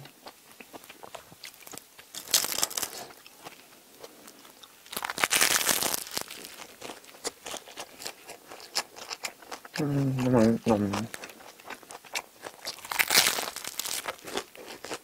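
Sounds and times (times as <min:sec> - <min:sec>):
crackly chewing: 0:00.0 - 0:15.0
bread crust crunching when bitten: 0:00.6 - 0:03.6, 0:04.3 - 0:09.8, 0:11.0 - 0:15.0.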